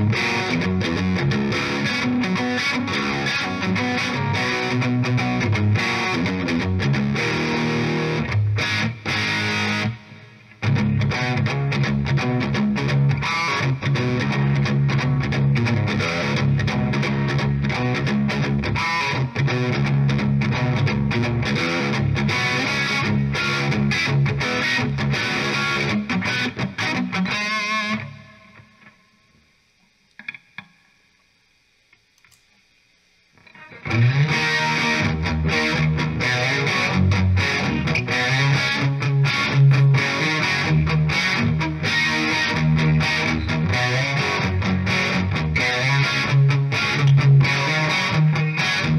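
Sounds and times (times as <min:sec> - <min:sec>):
distorted electric guitar: 0:00.0 - 0:31.2, 0:33.4 - 0:48.9.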